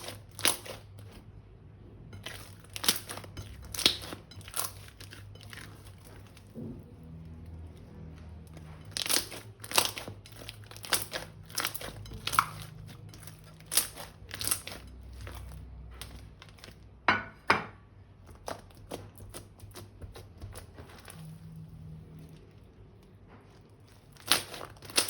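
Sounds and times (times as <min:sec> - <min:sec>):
slime crinkling and crackling: 0:00.0 - 0:01.2, 0:02.2 - 0:16.9, 0:18.1 - 0:25.0.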